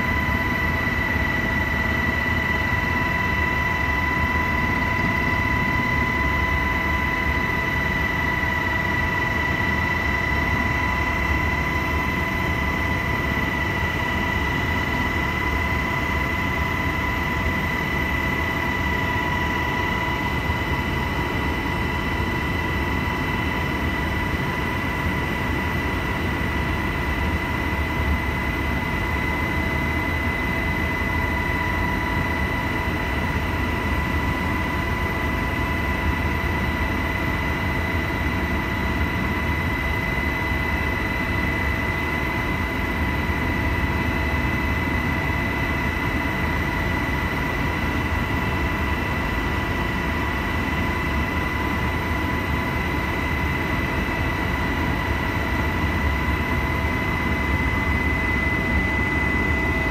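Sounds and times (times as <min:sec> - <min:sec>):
helicopter engine and rotor noise: 0:00.0 - 0:59.9.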